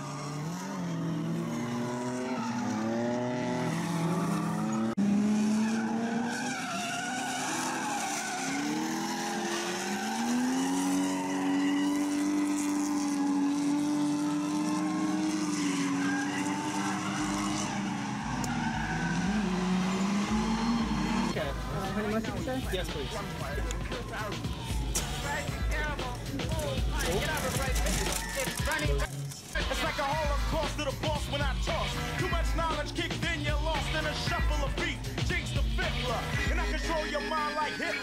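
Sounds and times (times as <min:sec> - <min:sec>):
car engines revving: 0:00.0 - 0:38.0
tyres squealing: 0:00.4 - 0:13.4, 0:14.6 - 0:32.9.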